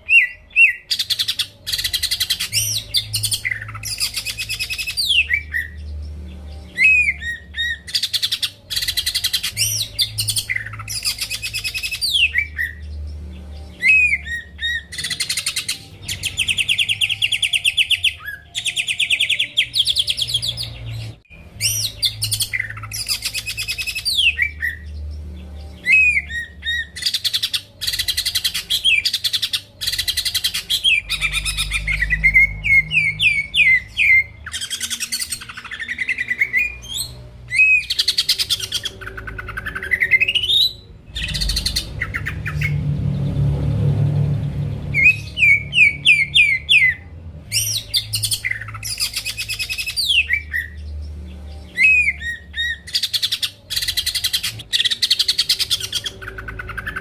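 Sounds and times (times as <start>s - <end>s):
bird singing trills and whistles: 0.0s - 43.4s, 44.9s - 57.0s.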